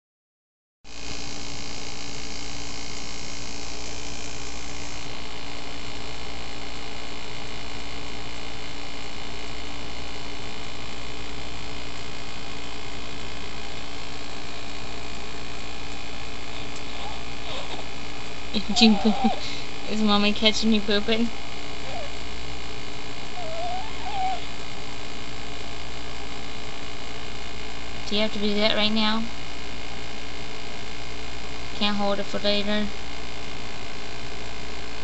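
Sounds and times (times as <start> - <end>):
electrical hum with hiss: 0.9 - 35.0.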